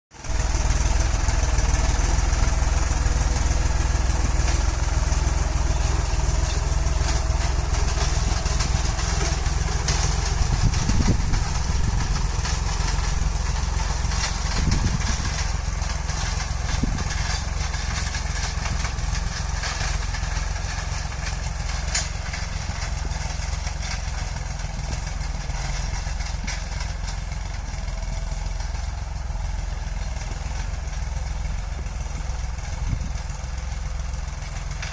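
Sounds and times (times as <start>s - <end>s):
tractor engine running: 0.1s - 34.9s
light rattling: 0.3s - 34.9s.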